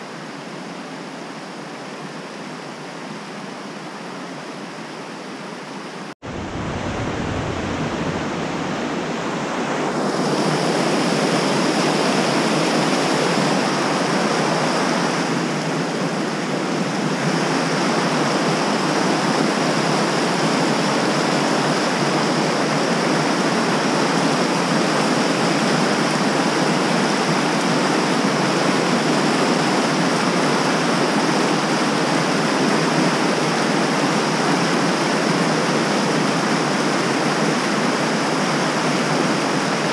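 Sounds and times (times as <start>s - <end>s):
rushing creek water: 6.2s - 39.9s.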